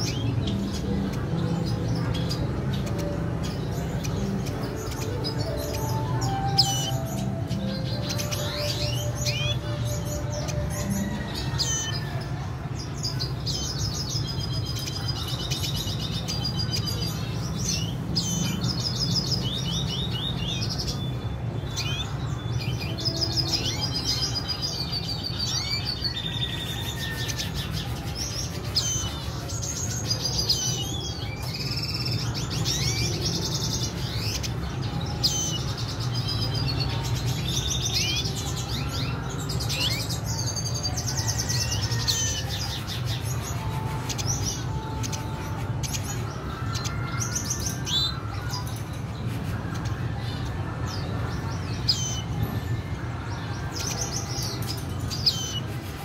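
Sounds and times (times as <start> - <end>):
finches chirping and trilling: 0.0 - 56.0.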